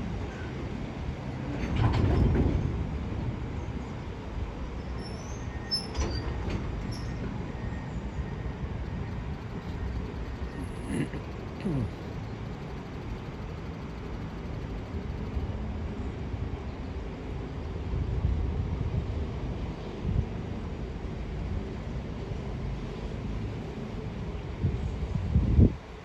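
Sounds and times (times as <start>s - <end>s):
freight train wheels rumbling: 0.0s - 23.4s.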